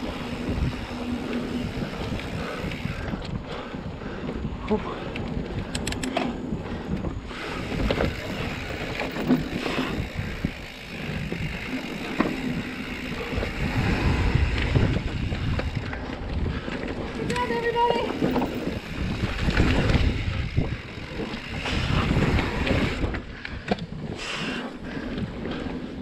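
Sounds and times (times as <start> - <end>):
bike tyres on dirt: 0.0 - 26.0
wind buffeting microphone: 0.0 - 26.0
bike clicks and knocks: 0.1 - 26.0.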